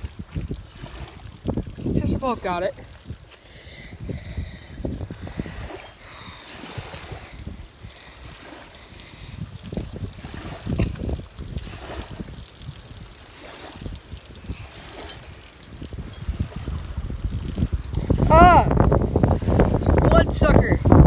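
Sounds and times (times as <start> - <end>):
water trickling and dripping: 0.0 - 21.0
wind buffeting microphone: 0.0 - 21.0.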